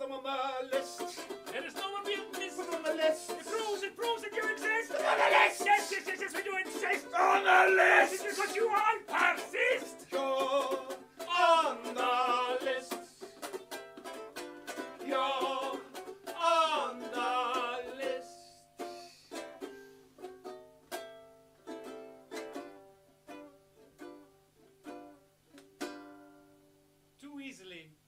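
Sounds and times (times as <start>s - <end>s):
ukulele playing: 0.4s - 26.9s.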